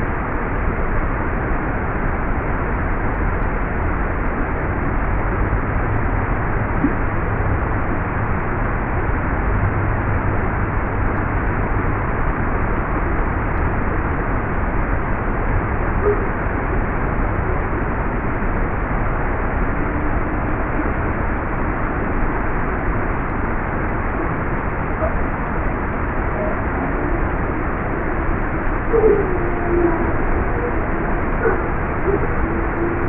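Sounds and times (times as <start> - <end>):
steady hiss of noise: 0.0 - 33.0.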